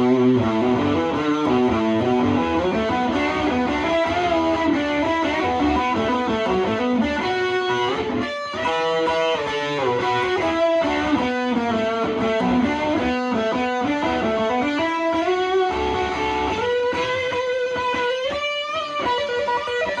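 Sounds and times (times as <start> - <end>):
electric guitar lead line: 0.0 - 20.0.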